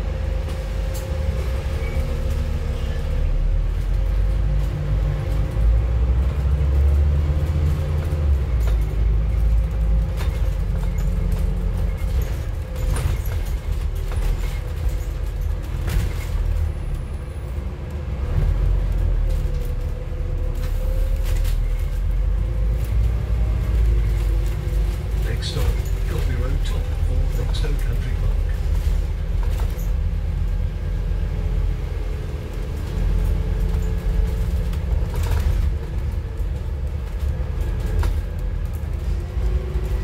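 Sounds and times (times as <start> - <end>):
bus engine rumble: 0.0 - 40.0
body rattles and knocks: 3.6 - 17.1, 18.2 - 40.0.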